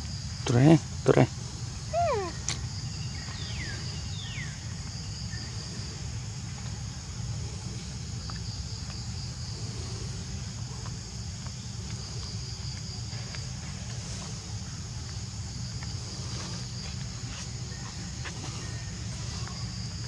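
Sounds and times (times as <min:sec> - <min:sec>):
insects droning: 0:00.0 - 0:20.0
low background rumble: 0:00.0 - 0:20.0.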